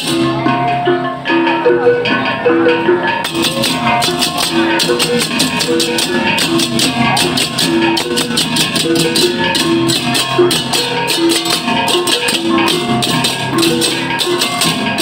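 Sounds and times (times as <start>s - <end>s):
drums: 0.0s - 15.0s.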